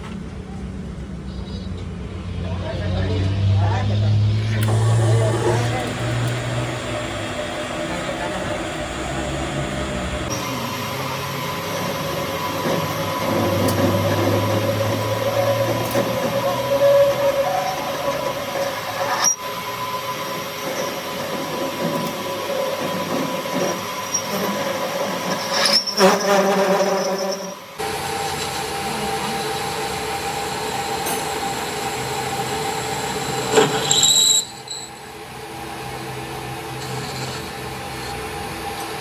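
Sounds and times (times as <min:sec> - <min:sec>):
lathe tool screeching on metal: 0:04.1 - 0:35.3, 0:36.6 - 0:38.8.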